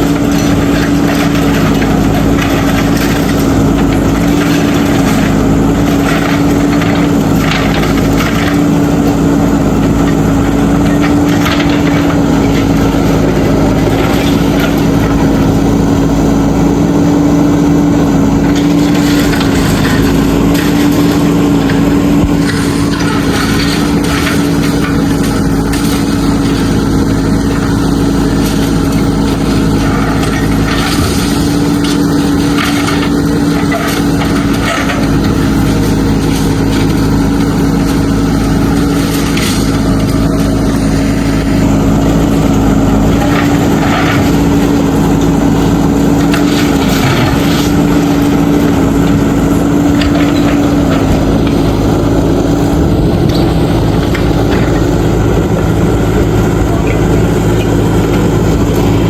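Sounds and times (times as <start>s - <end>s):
rubble knocking and scraping: 0.0s - 15.8s, 18.4s - 55.2s
diesel engine running: 0.0s - 59.0s.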